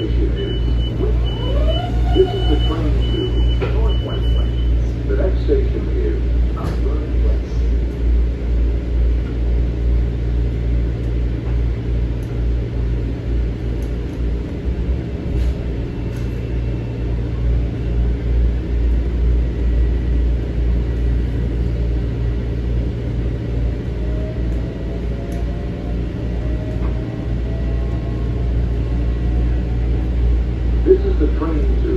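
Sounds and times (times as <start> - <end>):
train interior rumble: 0.0 - 31.9.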